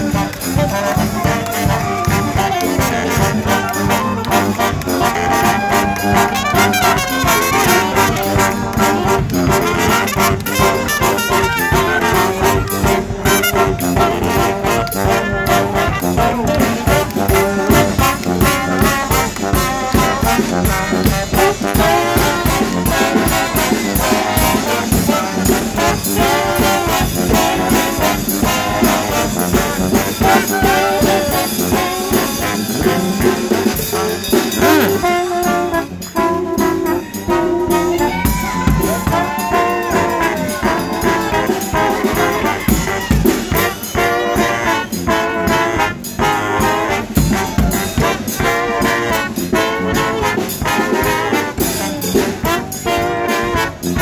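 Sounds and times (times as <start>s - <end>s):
brass instruments: 0.0s - 54.0s
steady drums: 0.0s - 54.0s
trombone playing: 0.0s - 54.0s.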